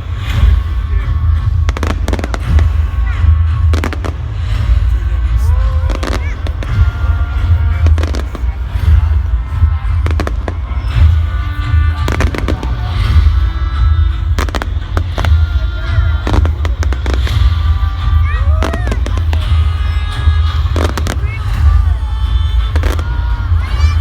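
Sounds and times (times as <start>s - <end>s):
loud music with heavy bass: 0.0s - 24.0s.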